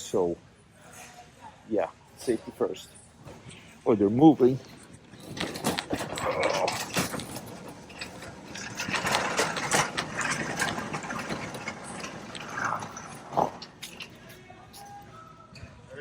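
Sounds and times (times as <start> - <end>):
wheeled bins rattling on floor: 2.2 - 15.2.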